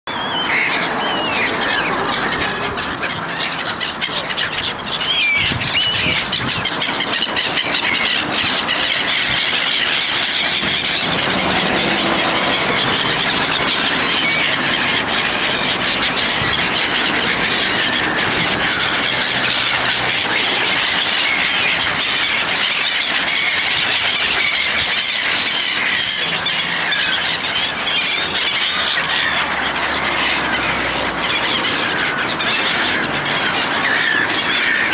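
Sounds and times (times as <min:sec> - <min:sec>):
flock of gulls calling: 0:00.1 - 0:34.9.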